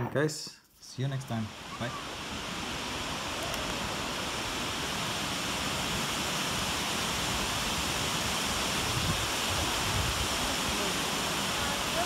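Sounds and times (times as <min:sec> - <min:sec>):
stream rushing over rocks: 0:01.2 - 0:12.0.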